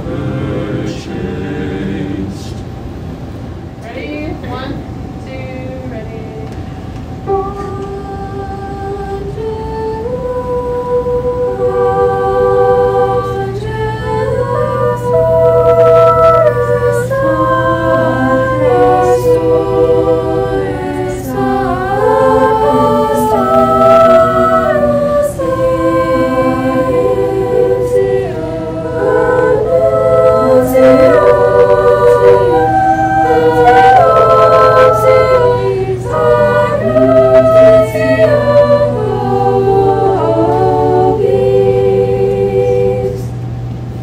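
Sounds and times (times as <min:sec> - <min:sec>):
girls singing a cappella harmony: 0:00.0 - 0:02.7, 0:07.2 - 0:43.6.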